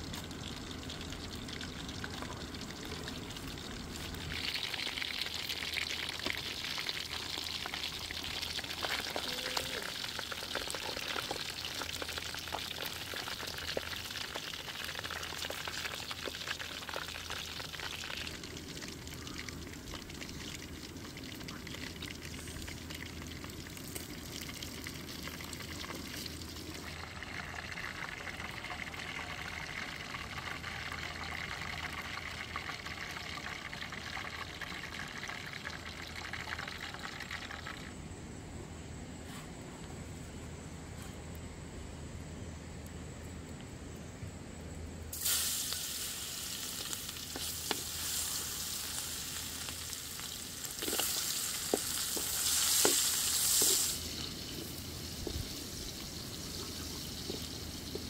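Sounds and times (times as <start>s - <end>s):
fish frying in hot oil: 0.0s - 38.0s, 45.1s - 58.0s.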